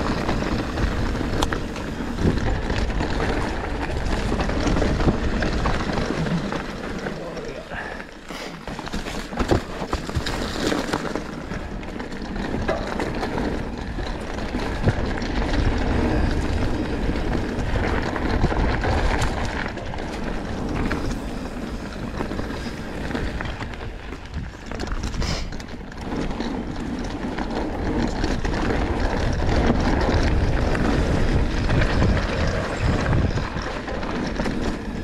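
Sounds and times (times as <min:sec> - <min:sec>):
bike rattling and knocking: 0:00.0 - 0:35.0
tyres rumbling over dirt: 0:00.0 - 0:35.0.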